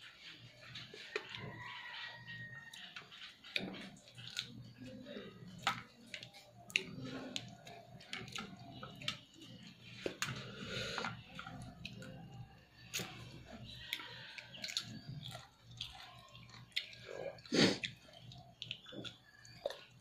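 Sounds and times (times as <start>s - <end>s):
person chewing with wet smacking: 0.0s - 20.0s.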